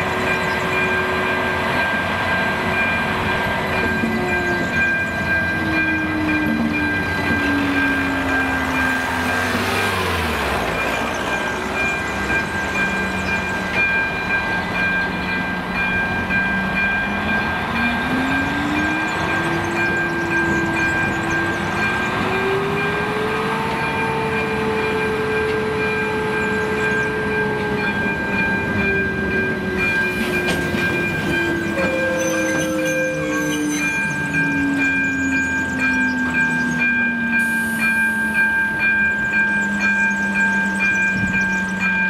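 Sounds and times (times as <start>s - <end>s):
crossing warning signal tone: 0.0s - 42.0s
train wheels clattering on rails: 0.0s - 42.0s.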